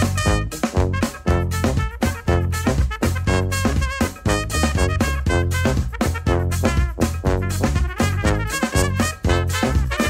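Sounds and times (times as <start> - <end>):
upbeat brass band music: 0.0 - 10.0.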